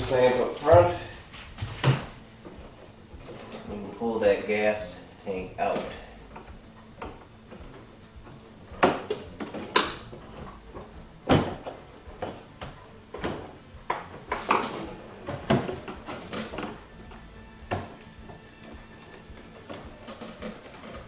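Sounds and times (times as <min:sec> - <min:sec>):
hand tools clicking and knocking: 0:00.0 - 0:21.0.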